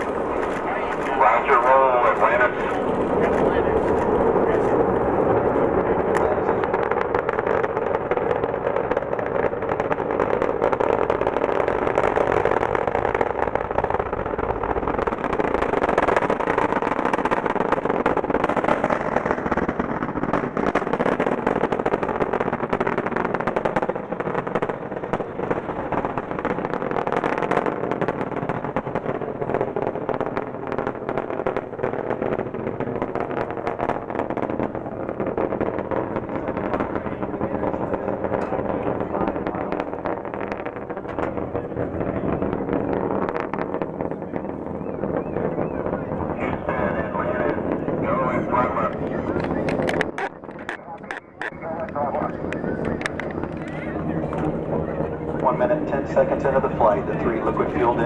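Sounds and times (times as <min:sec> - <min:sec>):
rocket launch rumble with crackling: 0:00.0 - 0:58.0.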